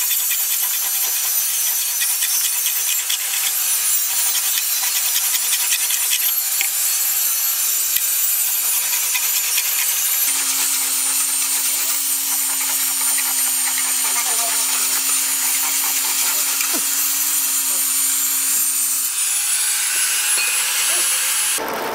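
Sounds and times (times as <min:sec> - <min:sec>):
file rasping on steel blade: 0:00.0 - 0:21.6.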